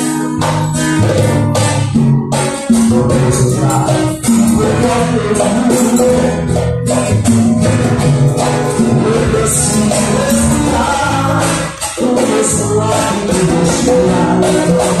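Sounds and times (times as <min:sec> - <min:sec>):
bass line: 0:00.0 - 0:15.0
high percussion strokes: 0:00.0 - 0:15.0
live band playing: 0:00.0 - 0:15.0.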